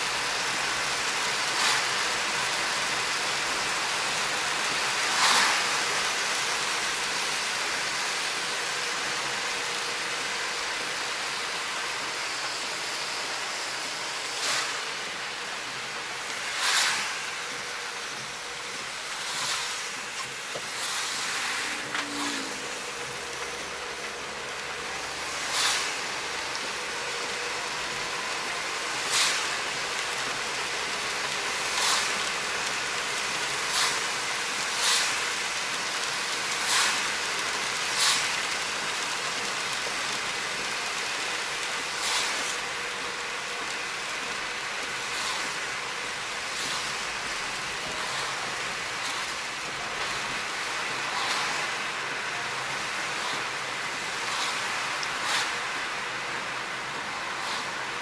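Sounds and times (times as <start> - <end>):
heavy rain and tyre hiss: 0.0 - 58.0.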